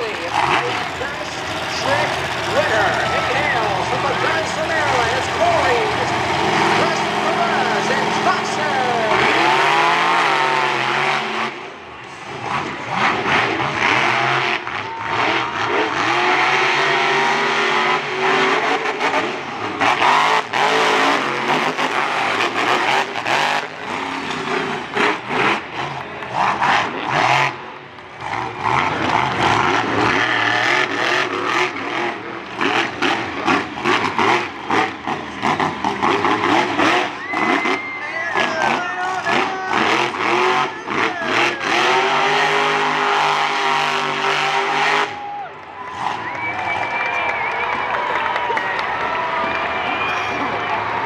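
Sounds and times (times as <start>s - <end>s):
monster truck engines revving: 0.0s - 51.0s.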